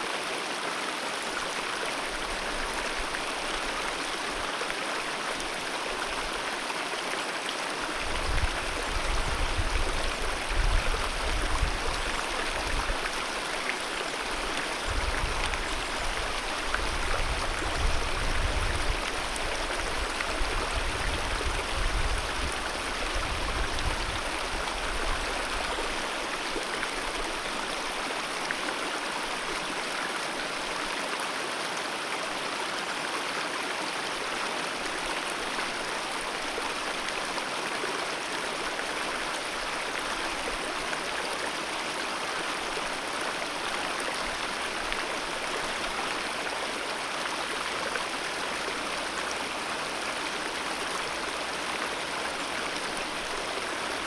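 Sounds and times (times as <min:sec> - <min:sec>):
river rushing over its bed: 0:00.0 - 0:54.0.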